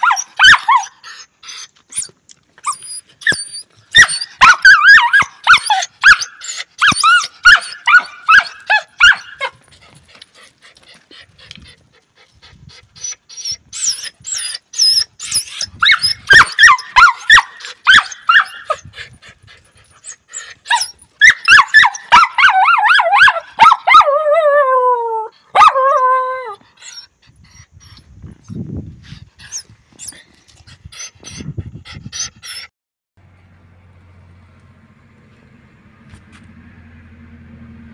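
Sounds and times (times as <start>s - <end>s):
dog whining and yipping: 0.0s - 9.9s, 10.8s - 32.7s.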